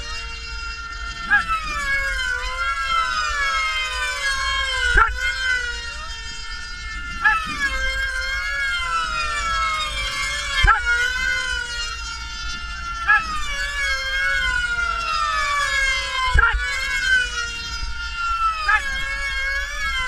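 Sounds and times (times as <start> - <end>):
model plane engines whining: 0.0 - 20.0.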